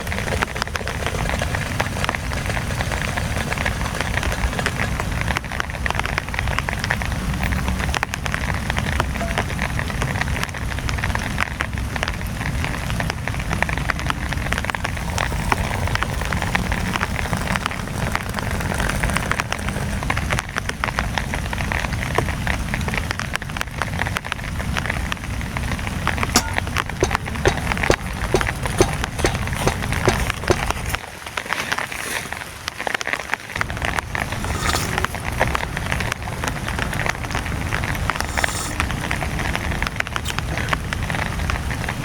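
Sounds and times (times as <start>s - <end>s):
heavy rain on a tent: 0.0s - 42.0s.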